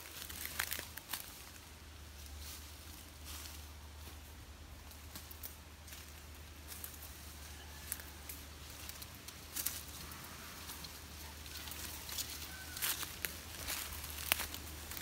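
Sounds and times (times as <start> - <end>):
dry leaves and twigs crackling: 0.0 - 15.0.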